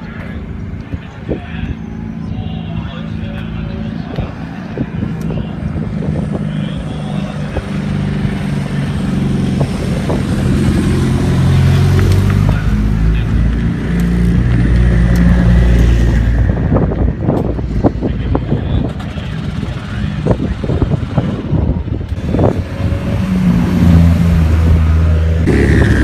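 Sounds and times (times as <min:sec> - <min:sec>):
race car engines rumbling past: 0:00.0 - 0:26.0.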